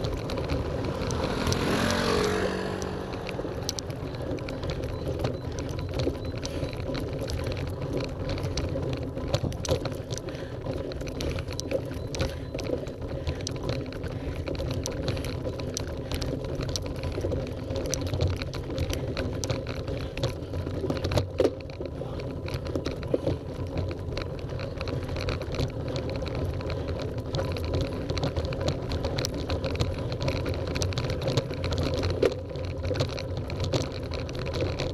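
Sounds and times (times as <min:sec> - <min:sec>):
bicycle rattling over cobblestones: 0:00.0 - 0:34.9.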